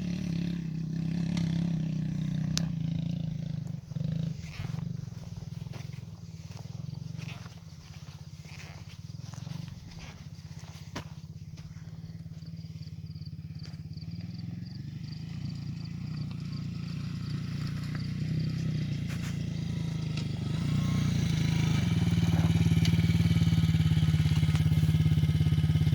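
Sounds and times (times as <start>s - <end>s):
motorbike engine running: 0.0s - 25.9s.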